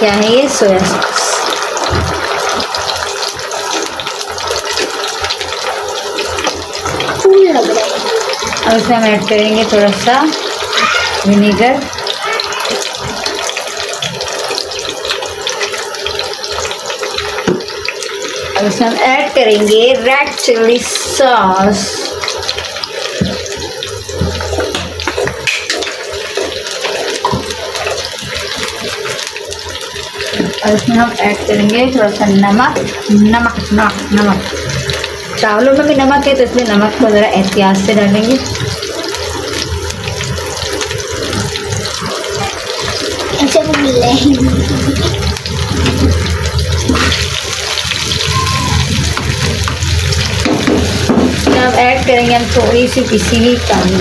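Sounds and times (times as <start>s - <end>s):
hot oil sizzling in a frying pan: 0.0s - 54.0s.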